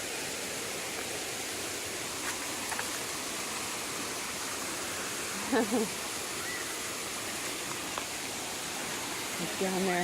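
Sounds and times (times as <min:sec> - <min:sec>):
waterfall and stream rushing: 0:00.0 - 0:10.0.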